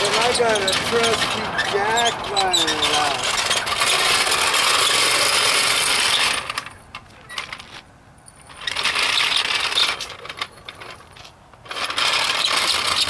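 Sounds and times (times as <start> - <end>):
metal car jack rattling scrape: 0.0 - 7.8, 8.4 - 13.0.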